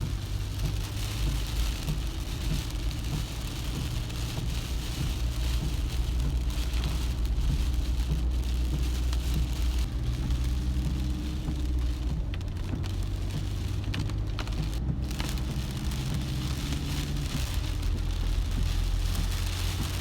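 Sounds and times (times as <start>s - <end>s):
car engine and road rumble: 0.0s - 20.0s
rain pattering on car: 0.0s - 20.0s.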